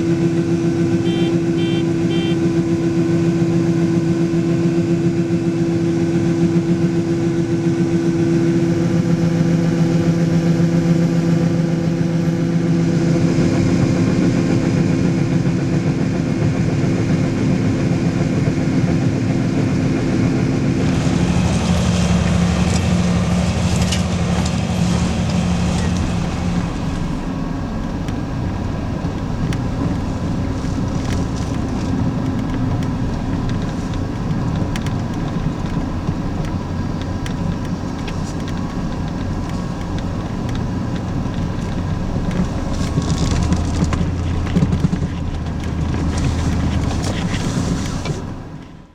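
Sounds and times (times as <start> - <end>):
farm machinery engine running: 0.0 - 48.9.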